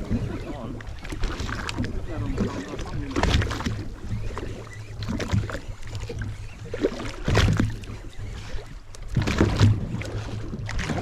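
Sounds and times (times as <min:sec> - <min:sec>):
boat engine hum: 0:00.0 - 0:11.0
water slapping: 0:00.0 - 0:11.0.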